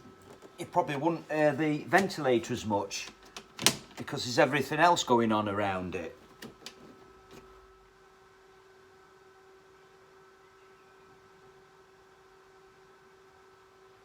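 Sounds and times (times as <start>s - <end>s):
ventilator fan humming: 0.0s - 14.0s.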